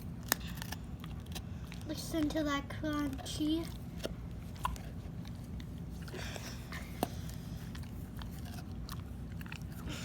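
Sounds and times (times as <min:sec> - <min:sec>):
dog chewing and crunching treat: 0:00.0 - 0:10.0.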